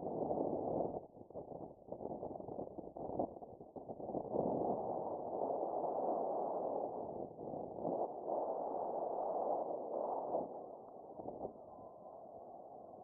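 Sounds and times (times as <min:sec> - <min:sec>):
wind on microphone: 0:00.0 - 0:11.8.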